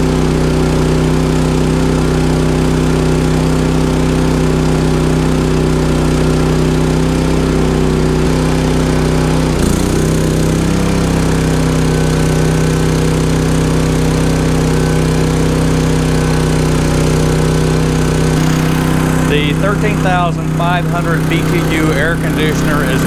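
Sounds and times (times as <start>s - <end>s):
air conditioner compressor kicking on: 0.0s - 23.0s
generator engine running: 0.0s - 23.0s.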